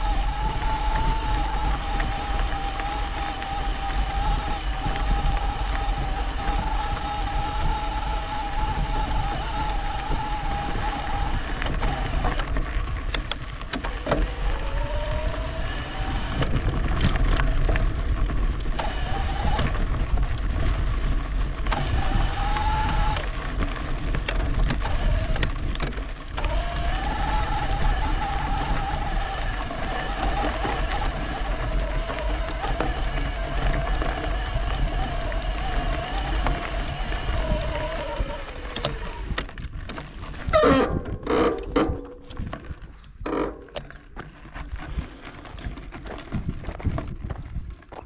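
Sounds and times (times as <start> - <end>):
bike clicking and rattling: 0.0 - 48.0
electric bike motor whining: 0.0 - 48.0
wind and tyres rumbling: 0.0 - 48.0.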